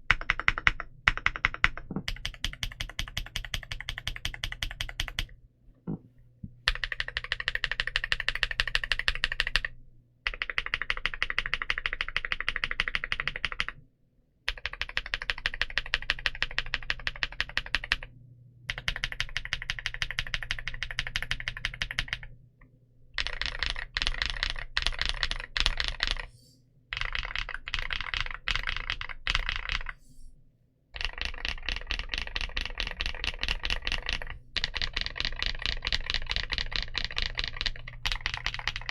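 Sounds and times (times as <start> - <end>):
clicky mechanical keyboard typing: 0.0 - 5.4, 6.7 - 13.8, 14.5 - 18.1, 18.7 - 22.4, 23.2 - 30.0, 31.0 - 38.9.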